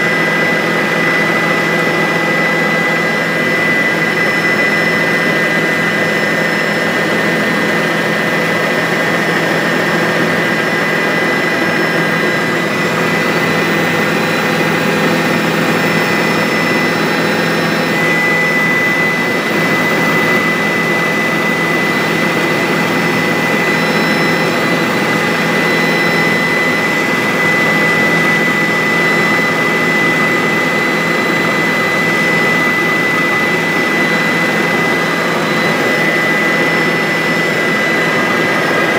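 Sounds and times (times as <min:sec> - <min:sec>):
helicopter turbine and rotor: 0:00.0 - 0:38.9
high steady whine: 0:00.0 - 0:38.9.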